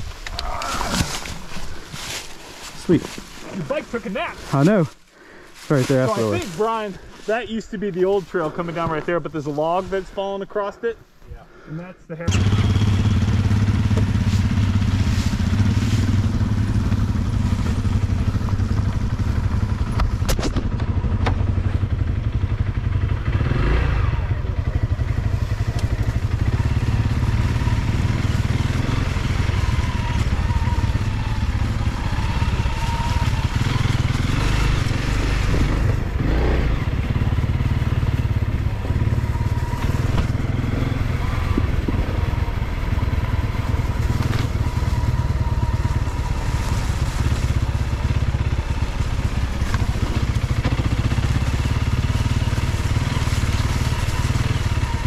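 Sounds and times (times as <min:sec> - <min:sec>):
dirt bike engine running: 0:01.6 - 0:10.4, 0:12.3 - 0:55.0.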